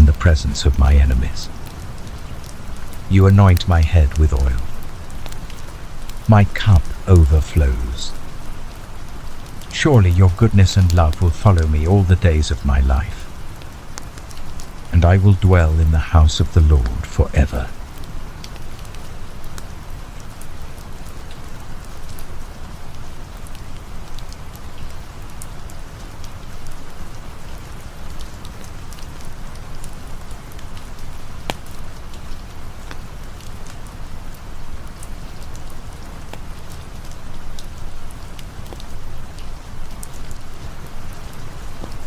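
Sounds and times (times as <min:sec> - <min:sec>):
campfire crackling: 0:00.0 - 0:42.0
steady rain falling: 0:00.0 - 0:42.0.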